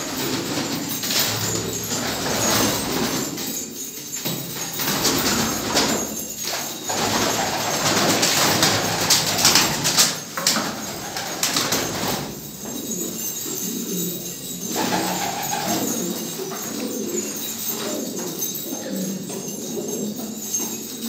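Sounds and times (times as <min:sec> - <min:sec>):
pigeons cooing: 0:00.0 - 0:21.0
rustling and clicks of wings: 0:00.1 - 0:14.1, 0:14.7 - 0:19.4.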